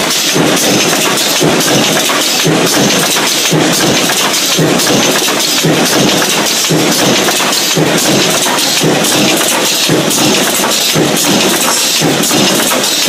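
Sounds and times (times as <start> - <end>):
stamping press metallic clatter: 0.0 - 13.0.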